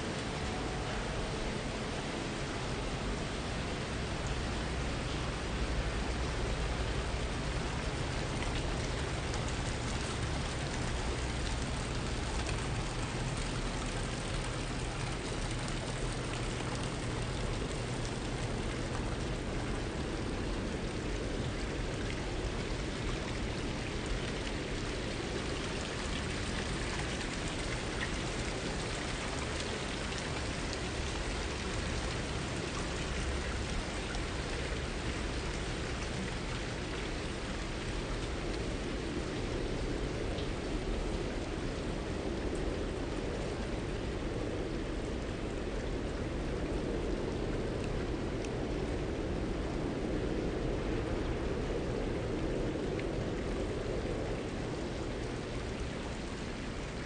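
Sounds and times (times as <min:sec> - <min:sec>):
fountain water splashing: 0:00.0 - 0:57.0.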